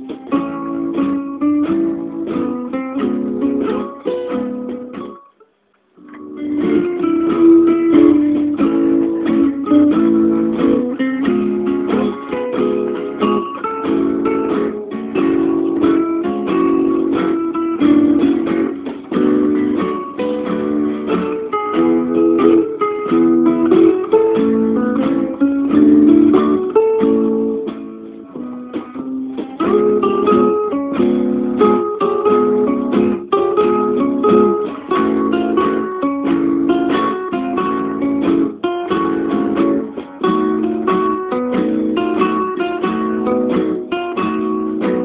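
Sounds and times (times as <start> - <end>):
acoustic guitar music: 0.0 - 45.0.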